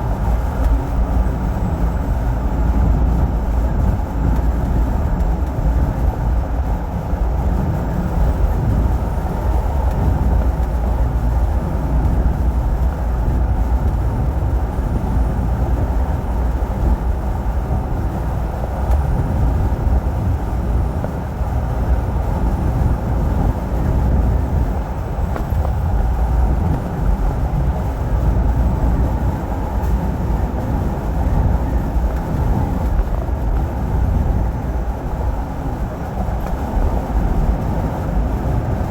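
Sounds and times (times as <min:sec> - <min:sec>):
truck engine and tyres rumbling: 0:00.0 - 0:38.9.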